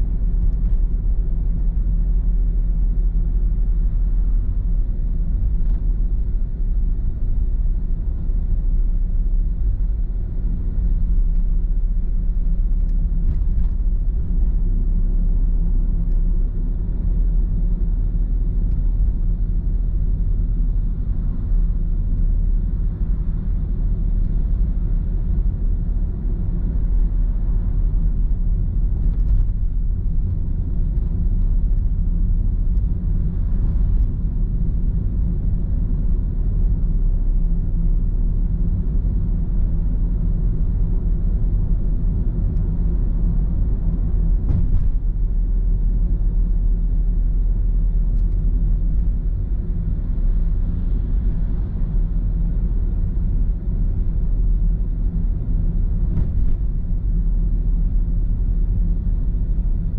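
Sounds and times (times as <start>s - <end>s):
car cabin road and engine rumble: 0.0s - 59.9s.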